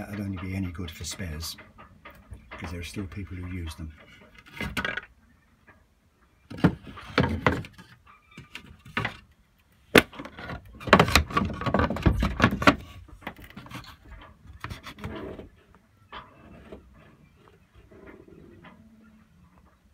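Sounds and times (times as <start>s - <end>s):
wooden knocks and clatter: 0.0s - 5.8s, 6.4s - 19.0s.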